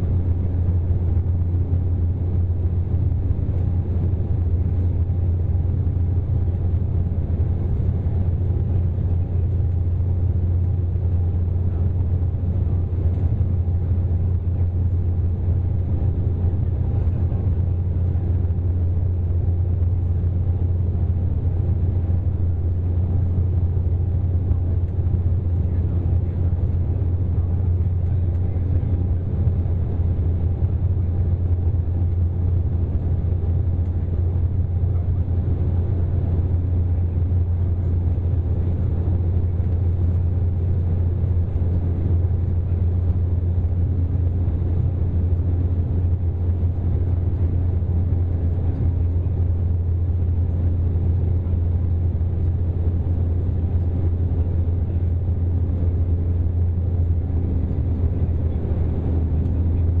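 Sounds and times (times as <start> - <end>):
airplane cabin rumble: 0.0 - 60.0
faint steady hum: 0.0 - 60.0.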